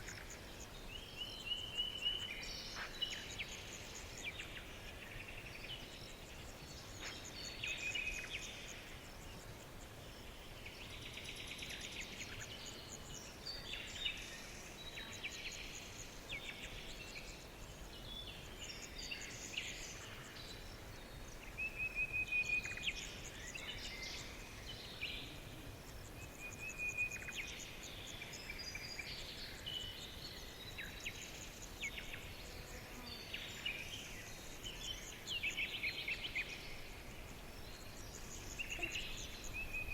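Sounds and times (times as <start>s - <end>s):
faint background hiss: 0.0s - 39.9s
songbirds chirping and trilling: 0.0s - 39.9s.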